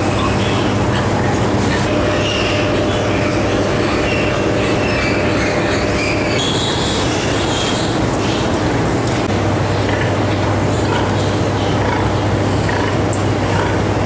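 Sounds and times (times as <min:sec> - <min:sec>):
ventilation machinery hum: 0:00.0 - 0:14.0.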